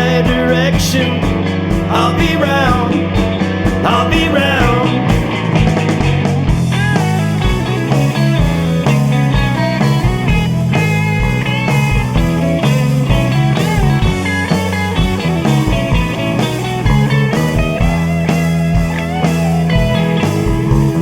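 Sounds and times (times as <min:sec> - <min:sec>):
bass guitar: 0:00.0 - 0:21.0
electric guitar with bending notes: 0:00.0 - 0:21.0
steady drum beat: 0:00.0 - 0:21.0.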